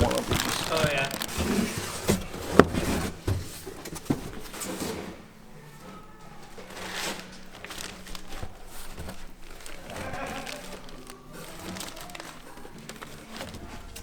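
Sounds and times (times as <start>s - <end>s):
faint handling noise: 0.0s - 14.0s.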